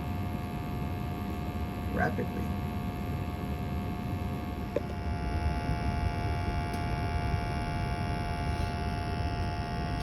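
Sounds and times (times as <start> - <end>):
gas furnace humming: 0.0 - 10.0.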